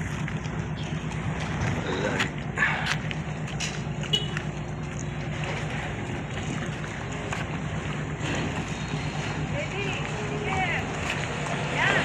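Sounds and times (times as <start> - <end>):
ship engines droning: 0.0 - 12.0
water noise: 0.0 - 12.0
wind: 0.0 - 12.0.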